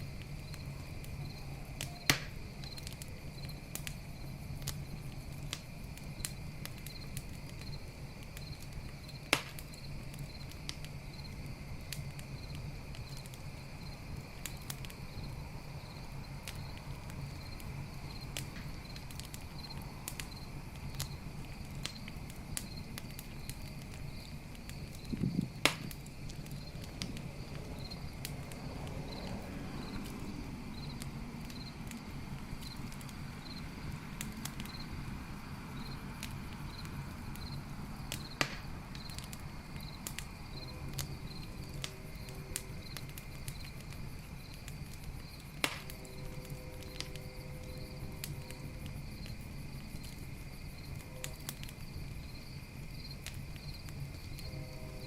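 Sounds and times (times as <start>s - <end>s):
campfire crackling and popping: 0.0s - 55.0s
night insects chirping: 0.0s - 55.0s.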